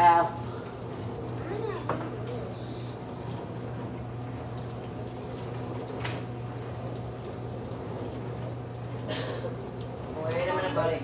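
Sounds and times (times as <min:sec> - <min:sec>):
kitchen hum and hiss: 0:00.0 - 0:11.0.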